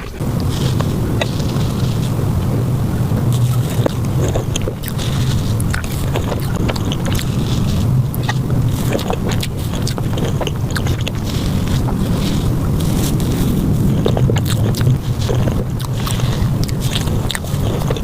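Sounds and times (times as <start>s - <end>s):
steady low hum: 0.0s - 18.0s
mouth clicks and smacks: 3.2s - 18.0s.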